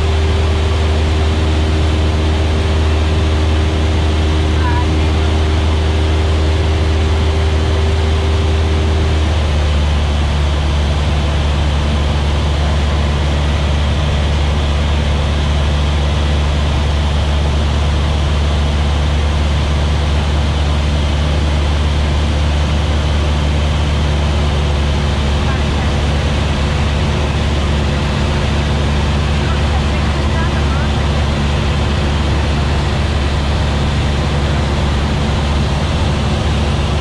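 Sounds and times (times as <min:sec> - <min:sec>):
small plane engine drone: 0:00.0 - 0:37.0.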